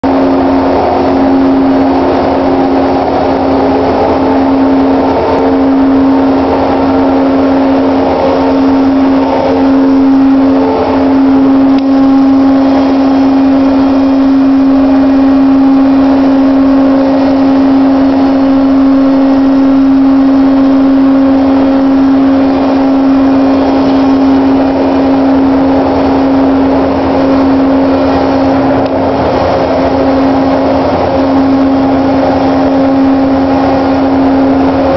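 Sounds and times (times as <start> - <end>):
drilling machinery droning: 0.0 - 34.9.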